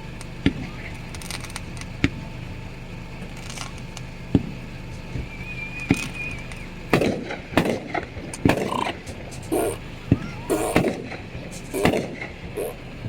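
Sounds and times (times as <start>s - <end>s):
firecrackers banging: 0.0s - 13.0s
steady low hum: 0.0s - 13.0s.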